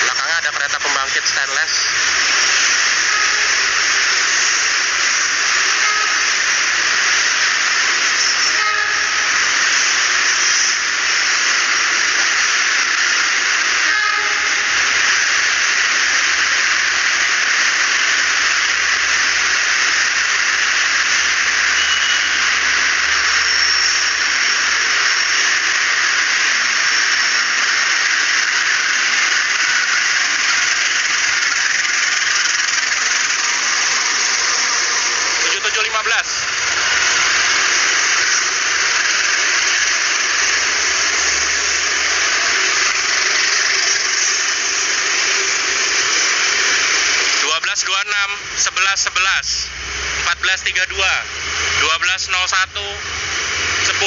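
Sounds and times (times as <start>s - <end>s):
steel wheels rushing on rails: 0.0s - 54.0s.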